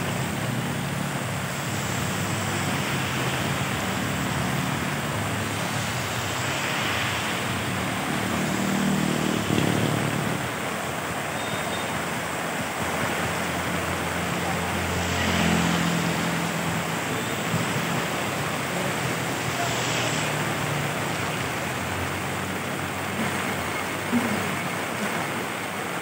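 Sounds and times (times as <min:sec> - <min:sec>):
heavy rain on pavement: 0:00.0 - 0:26.0
traffic on wet road: 0:00.0 - 0:26.0.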